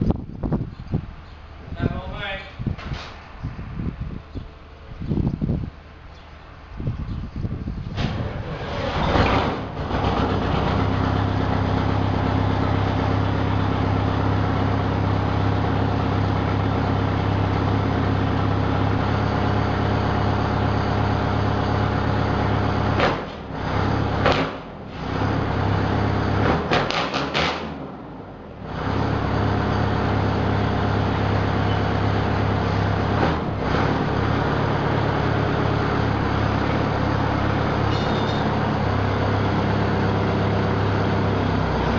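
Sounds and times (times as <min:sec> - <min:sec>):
loud diesel engine running: 0:08.0 - 0:41.9.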